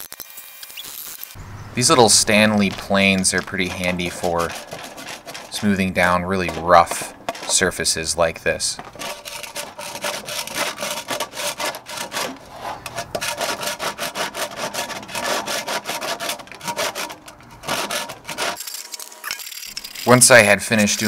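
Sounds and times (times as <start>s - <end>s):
hand plane shaving wood: 1.8s - 18.7s.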